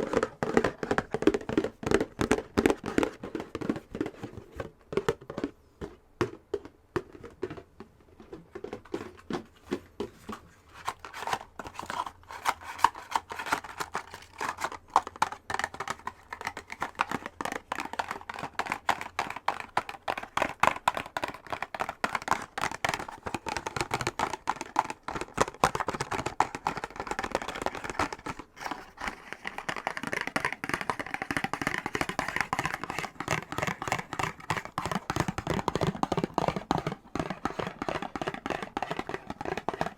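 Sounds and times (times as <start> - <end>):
fingernails tapping and scratching box: 0.0 - 39.9.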